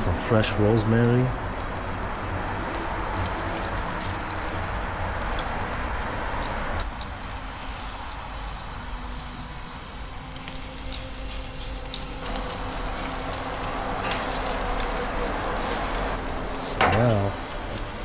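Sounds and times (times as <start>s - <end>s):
steaks sizzling on a grill: 0.0s - 18.0s.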